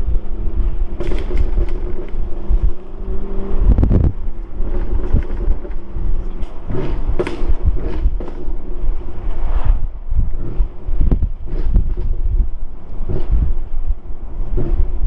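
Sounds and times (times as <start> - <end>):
car exhaust drone: 0.0 - 15.0
exhaust crackles and pops: 0.0 - 15.0.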